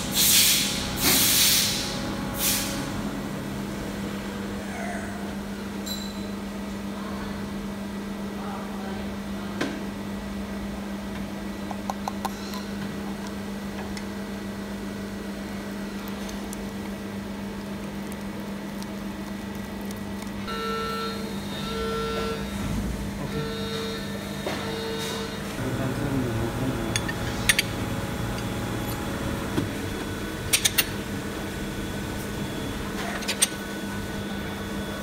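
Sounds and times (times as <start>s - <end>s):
machinery electrical hum: 0.0s - 35.0s.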